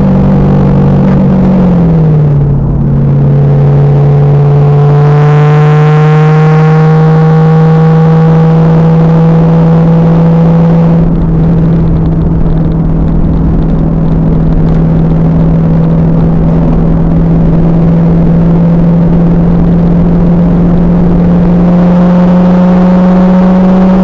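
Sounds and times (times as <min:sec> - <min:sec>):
car engine revving on track: 0:00.0 - 0:24.0.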